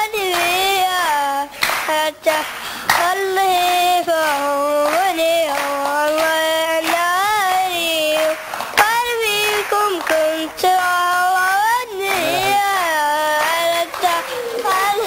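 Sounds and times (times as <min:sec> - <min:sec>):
boy singing: 0:00.0 - 0:15.0.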